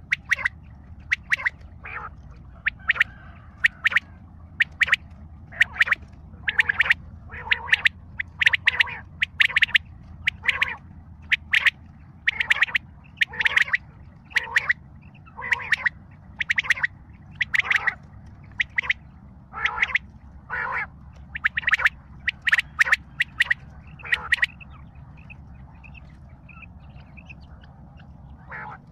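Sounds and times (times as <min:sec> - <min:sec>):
quail calling: 0:00.0 - 0:28.9
steady low hum: 0:00.0 - 0:28.9.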